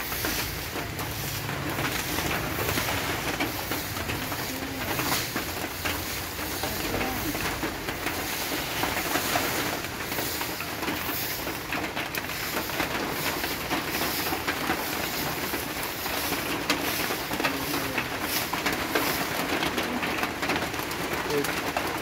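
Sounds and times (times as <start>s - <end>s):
light rain falling on sea: 0.0s - 22.0s.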